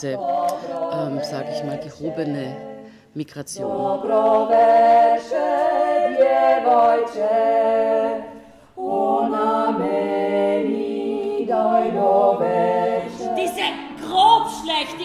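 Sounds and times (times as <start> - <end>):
group of people singing: 0.0 - 15.0.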